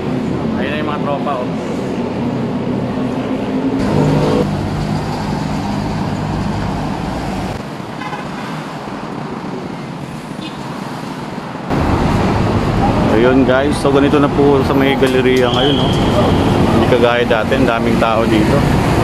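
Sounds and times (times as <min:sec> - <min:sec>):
passing vehicles rushing: 0:00.0 - 0:19.0.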